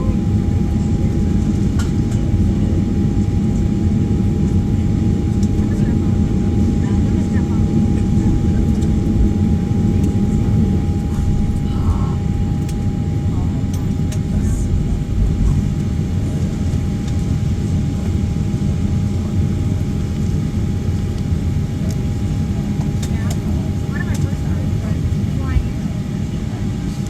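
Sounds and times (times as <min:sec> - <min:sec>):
airplane cabin rumble taxiing: 0:00.0 - 0:27.0.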